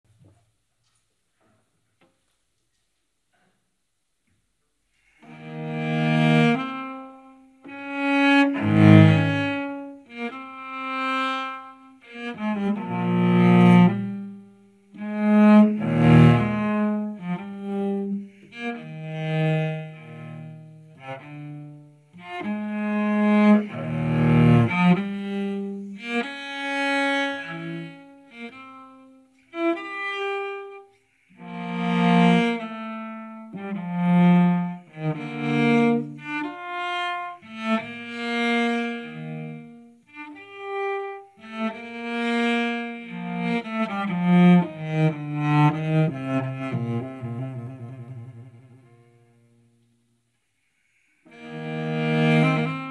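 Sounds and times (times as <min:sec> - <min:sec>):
bowed cello: 0:05.1 - 0:52.9.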